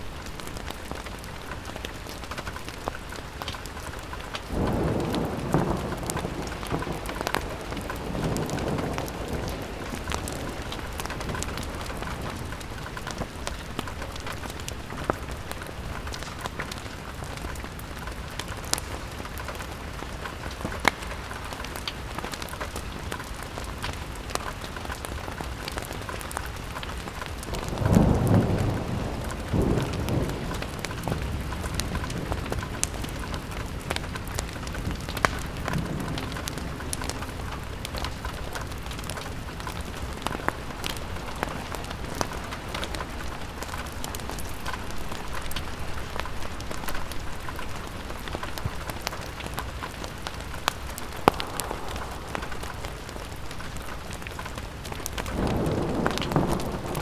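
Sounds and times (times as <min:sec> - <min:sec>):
rain on a window: 0:00.0 - 0:57.0
thunder rumbling: 0:03.8 - 0:57.0.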